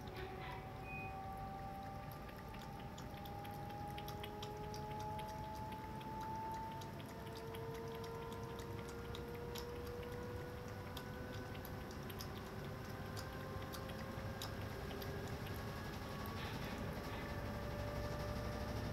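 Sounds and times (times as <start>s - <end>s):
cat lapping water: 0.0s - 18.9s
faint steady hum: 0.0s - 18.9s.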